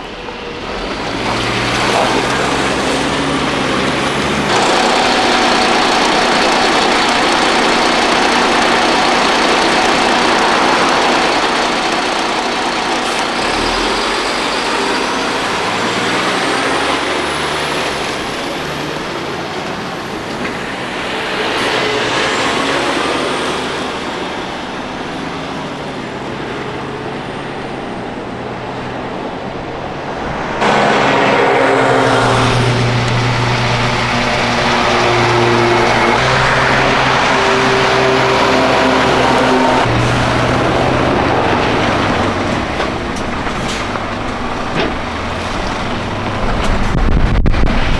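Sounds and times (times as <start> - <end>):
heavy trucks driving past: 0.0 - 47.9
truck engine low hum: 0.0 - 47.9.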